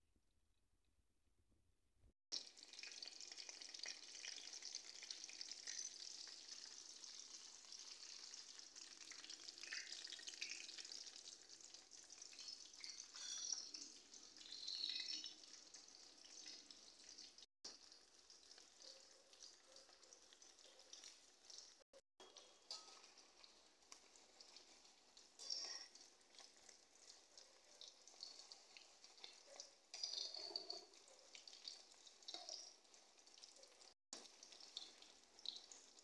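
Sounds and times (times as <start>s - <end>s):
hot oil sizzling and crackling: 2.3s - 36.0s.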